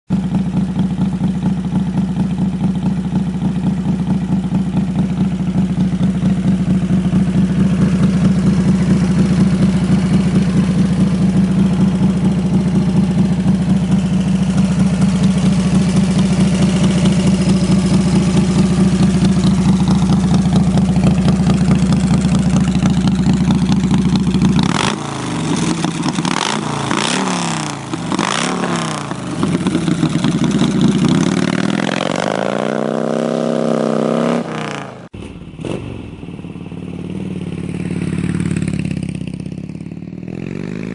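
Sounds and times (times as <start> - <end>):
motorcycle engine idling and revving: 0.1 - 40.9.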